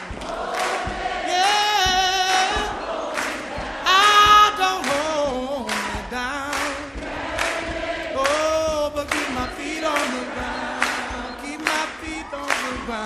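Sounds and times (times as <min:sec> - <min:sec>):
song with vibrato vocals and beat: 0:00.0 - 0:13.0.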